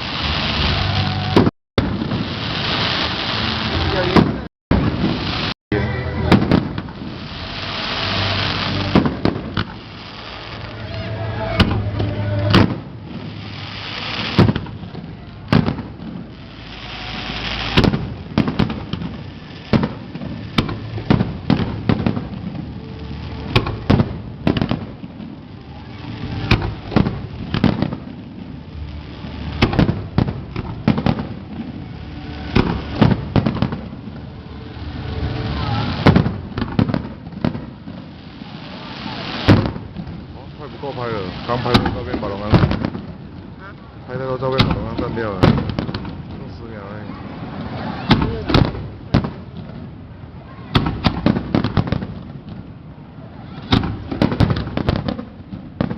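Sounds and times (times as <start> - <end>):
fireworks bangs: 0.0 - 55.9
fireworks hissing crackle: 0.0 - 55.9.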